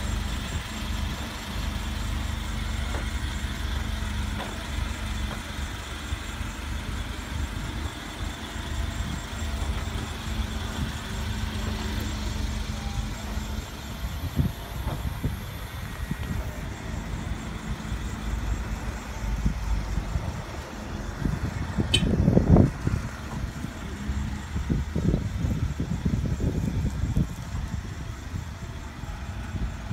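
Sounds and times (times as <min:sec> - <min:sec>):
engine rumble: 0:00.0 - 0:29.9
forklift engine running: 0:00.0 - 0:29.9.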